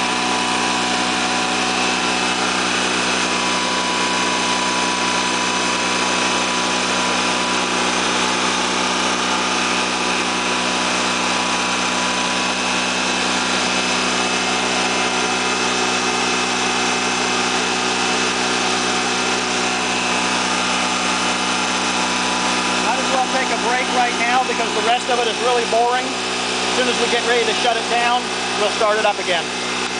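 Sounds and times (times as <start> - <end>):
generator engine humming: 0.0 - 29.9.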